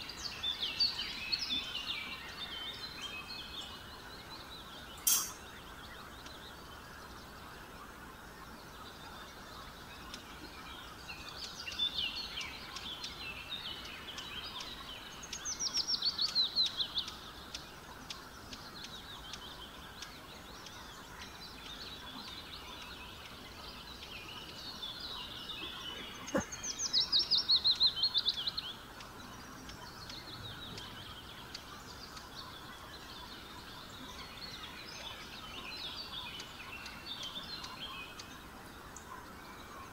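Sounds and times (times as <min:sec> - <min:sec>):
small bird singing: 0:00.0 - 0:39.9
steady low hiss: 0:00.0 - 0:39.9.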